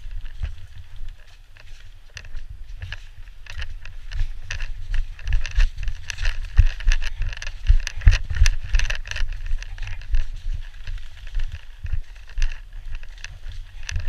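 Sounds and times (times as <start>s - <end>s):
gear rattling: 0.0s - 14.0s
handling and wind rumble: 0.0s - 14.0s.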